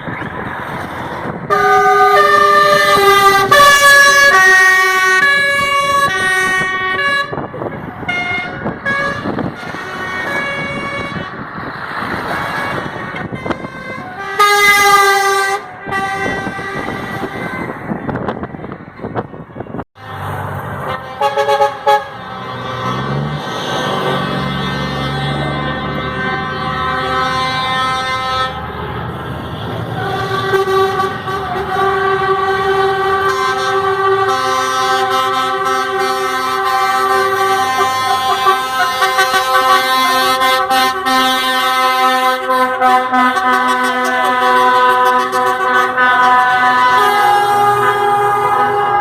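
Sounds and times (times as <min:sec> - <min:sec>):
truck horns sounding: 0:00.0 - 0:49.0.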